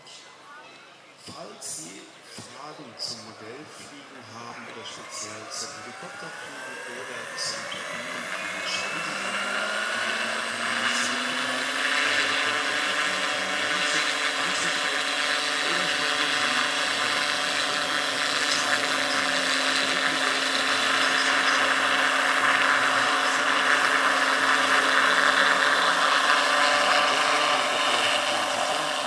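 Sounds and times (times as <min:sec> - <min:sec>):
model helicopter rotor whine: 0:03.0 - 0:29.0.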